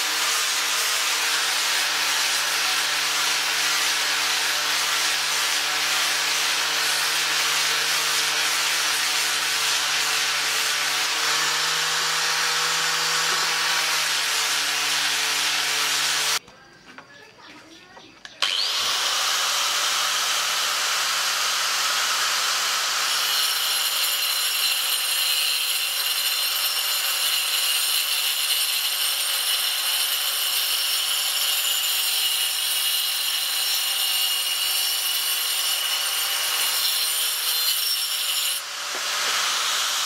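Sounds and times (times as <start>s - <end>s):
angle grinder sanding wood: 0.0s - 16.4s, 18.4s - 40.0s.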